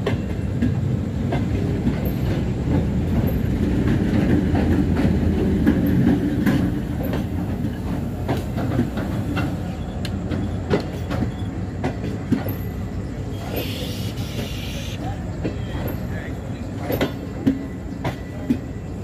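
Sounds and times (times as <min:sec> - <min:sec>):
train wheels rumbling on rails: 0:00.0 - 0:19.0
wheels clunking over rail joints: 0:00.0 - 0:19.0.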